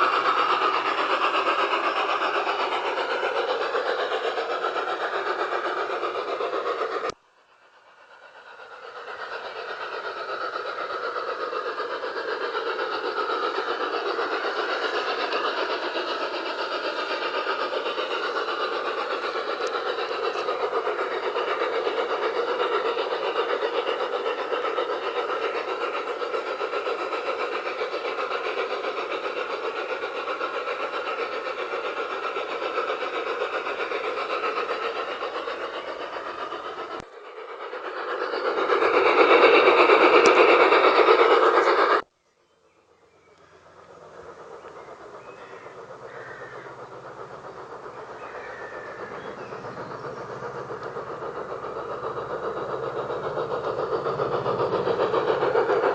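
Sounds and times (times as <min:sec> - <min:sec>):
model train sound effects: 0:00.0 - 0:55.9.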